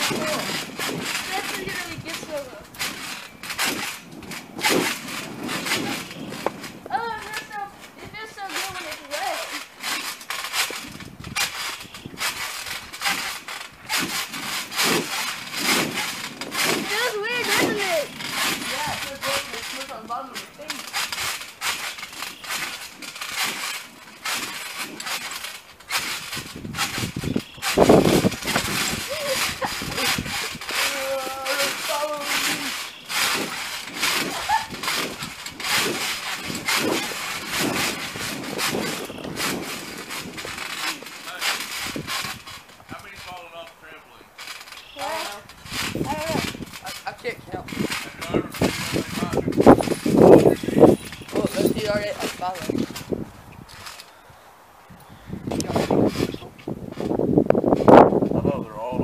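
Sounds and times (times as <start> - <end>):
feet landing on water beads: 0.0 - 54.2.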